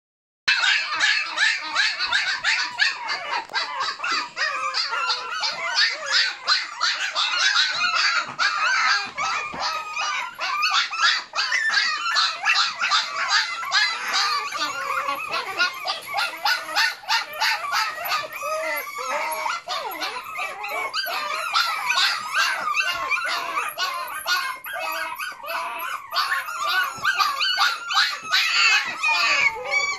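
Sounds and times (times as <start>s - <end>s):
puppies yipping and barking: 0.5s - 29.9s.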